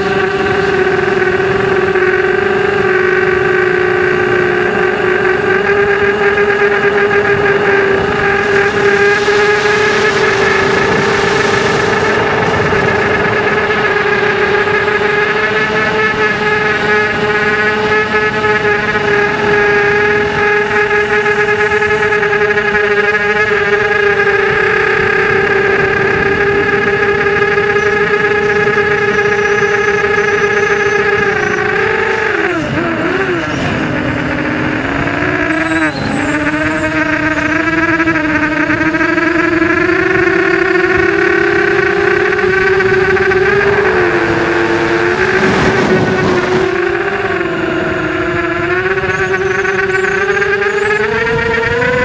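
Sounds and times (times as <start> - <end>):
model aircraft motor whine: 0.0 - 52.0.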